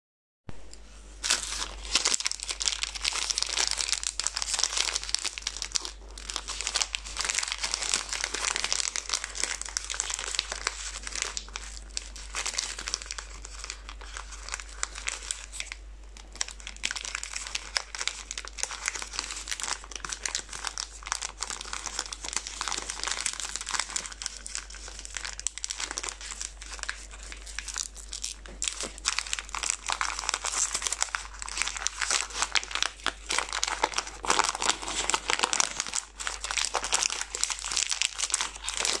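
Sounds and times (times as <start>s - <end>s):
plastic wrappers crinkling and tearing: 1.2s - 39.0s.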